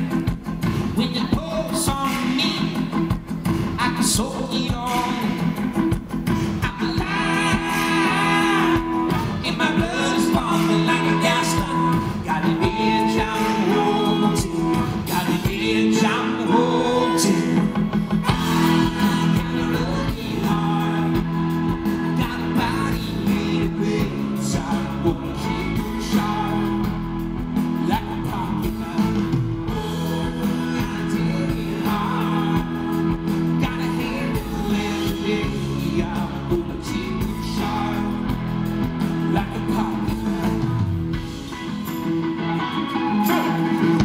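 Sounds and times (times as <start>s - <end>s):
lead singer singing: 0.0s - 3.0s, 3.7s - 5.7s, 6.3s - 44.0s
bass guitar: 0.0s - 44.0s
drums: 0.0s - 44.0s
electric guitars: 0.0s - 44.0s.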